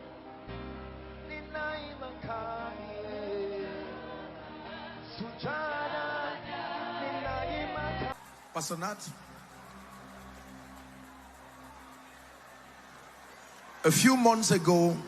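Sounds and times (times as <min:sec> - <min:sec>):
choir singing long notes: 0:00.0 - 0:13.9.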